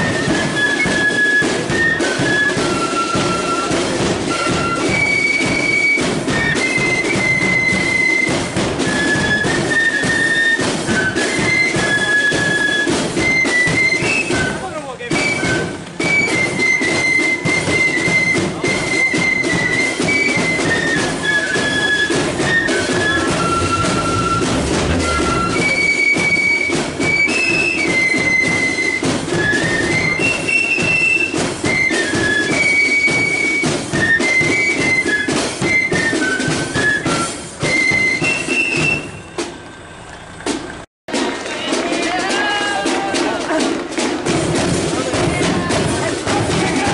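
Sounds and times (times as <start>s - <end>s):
flutes playing melody: 0.0s - 39.5s
steady drum beats: 0.0s - 46.9s.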